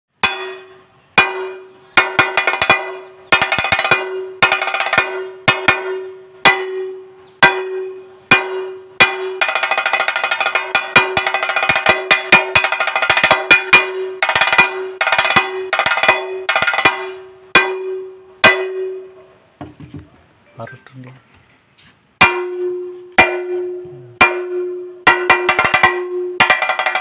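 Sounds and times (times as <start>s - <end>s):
drum struck with sticks: 0.2s - 20.1s, 22.2s - 27.0s.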